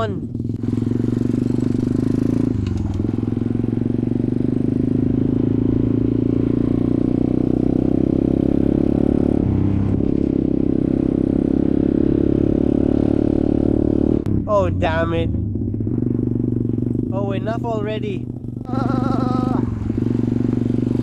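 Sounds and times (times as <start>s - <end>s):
off-road motorcycle engine: 0.0s - 21.0s.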